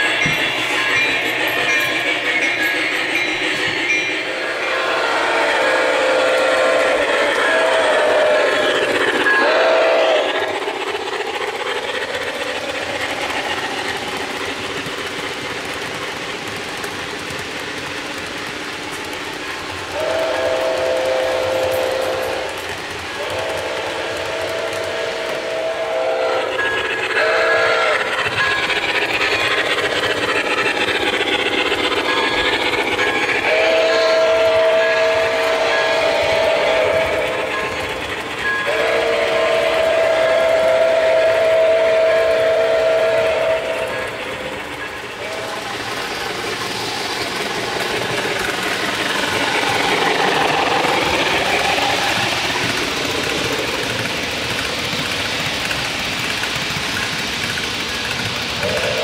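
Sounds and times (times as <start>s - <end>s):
model train wheels clattering: 6.2s - 59.0s.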